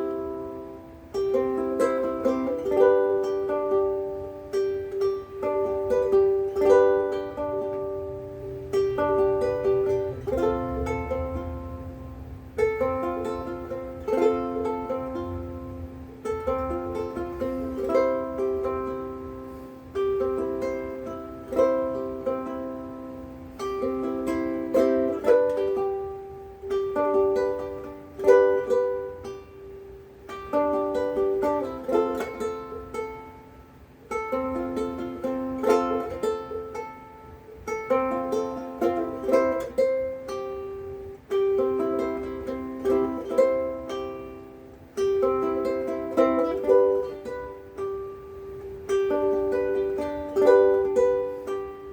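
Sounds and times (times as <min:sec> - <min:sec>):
fingerpicked ukulele: 0:00.0 - 0:51.9.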